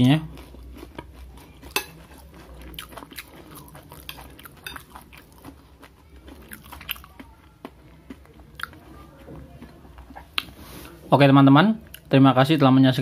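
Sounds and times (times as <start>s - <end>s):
chewing food: 0.0s - 10.9s.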